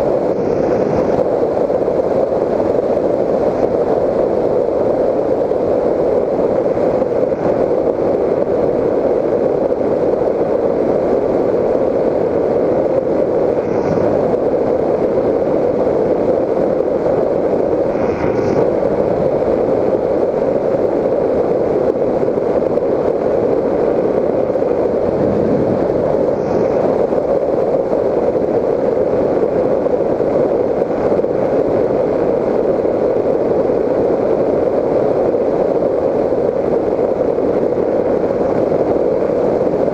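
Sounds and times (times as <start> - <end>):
muffled airflow and propeller noise: 0.0 - 39.9.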